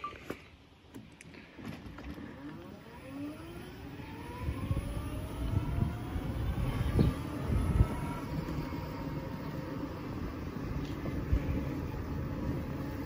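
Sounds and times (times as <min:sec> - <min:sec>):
vehicle motor whine rising: 0:01.7 - 0:13.0.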